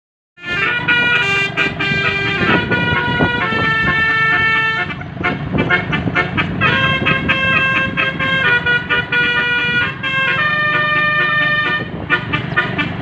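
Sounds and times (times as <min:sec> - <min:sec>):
bus horn playing a tune: 0:00.4 - 0:13.0.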